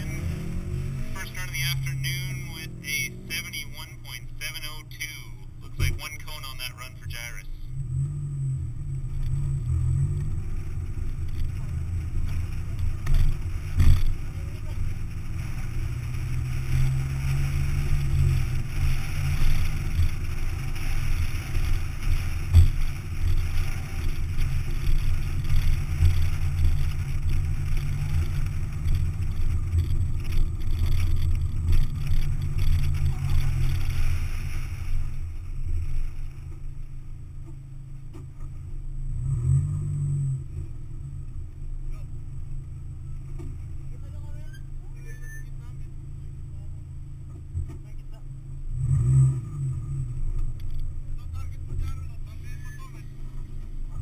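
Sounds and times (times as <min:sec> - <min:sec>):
sports car engine running: 0:00.0 - 0:54.0
wind and road noise: 0:00.0 - 0:54.0.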